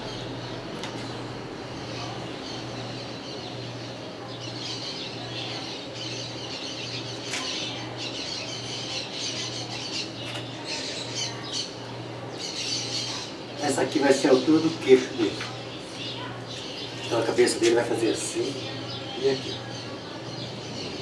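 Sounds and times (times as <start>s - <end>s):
birds chirping and squawking: 0.0s - 21.0s
low pulsing hum: 0.0s - 21.0s.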